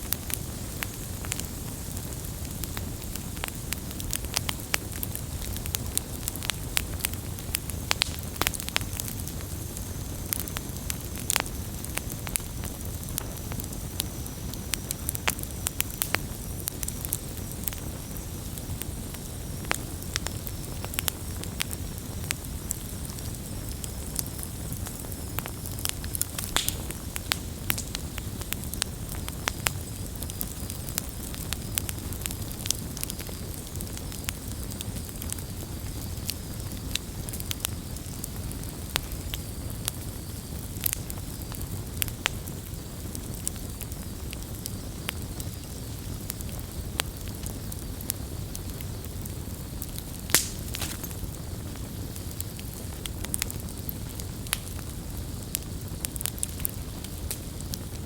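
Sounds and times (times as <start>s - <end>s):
crackles and pops of burning wood: 0.0s - 58.0s
low rumble of flames: 0.0s - 58.0s.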